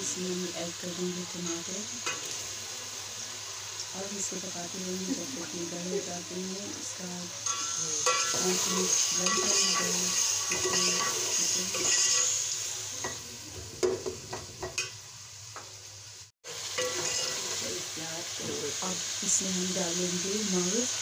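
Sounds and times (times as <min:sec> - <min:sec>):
tomatoes sizzling in hot oil: 0:00.0 - 0:21.0.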